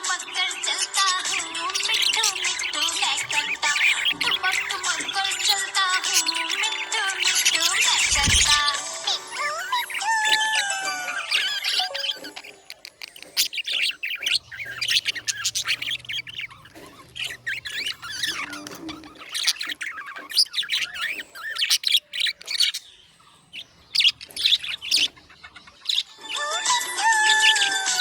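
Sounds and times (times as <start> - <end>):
budgerigars chirping and warbling: 0.0 - 28.0.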